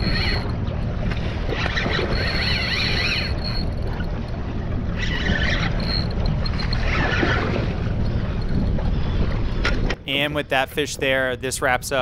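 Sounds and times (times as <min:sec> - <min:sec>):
dull low rumble: 0:00.0 - 0:12.0
water noise: 0:00.0 - 0:12.0
wind: 0:00.0 - 0:12.0.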